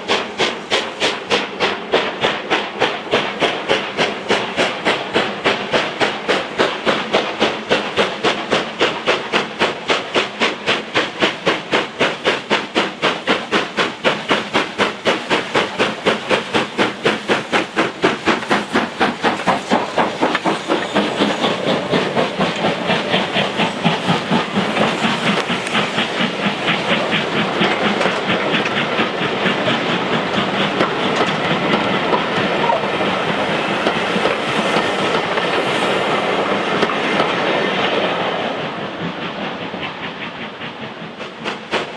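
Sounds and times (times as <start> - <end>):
steam locomotive exhaust beats: 0.0 - 41.9
wheels rushing on rails: 0.0 - 41.9.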